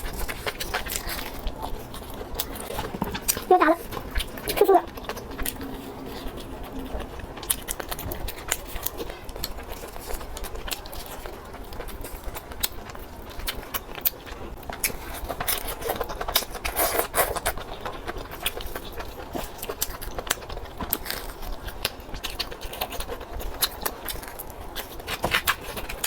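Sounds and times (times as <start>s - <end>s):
crunching of fried food being chewed: 0.0s - 26.0s.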